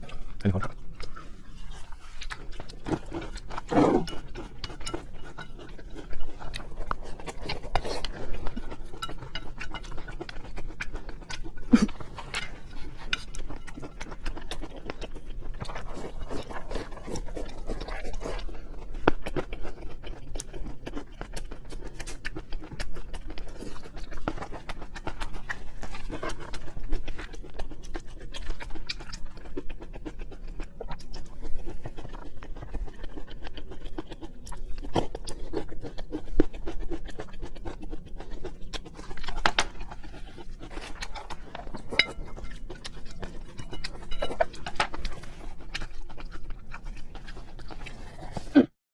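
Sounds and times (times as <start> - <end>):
person chewing food: 0.0 - 48.8.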